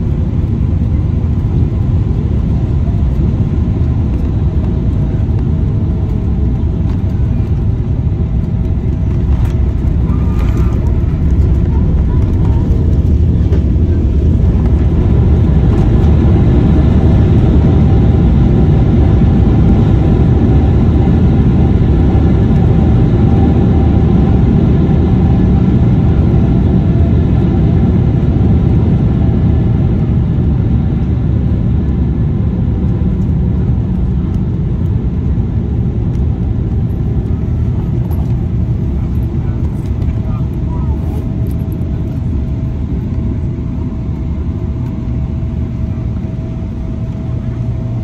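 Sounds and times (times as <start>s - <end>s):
aircraft cabin rumble: 0.0s - 48.0s
faint engine whine: 0.0s - 48.0s.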